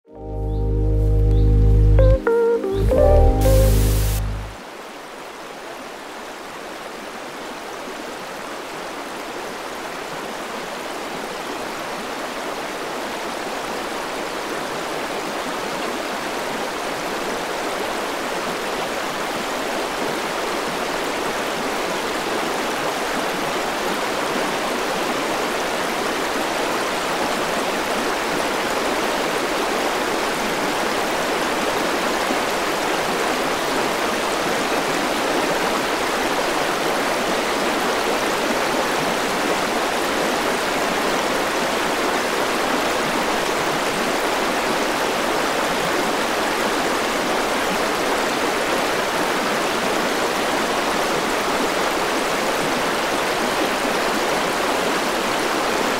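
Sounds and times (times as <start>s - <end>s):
river rushing over rocks: 4.0s - 55.9s.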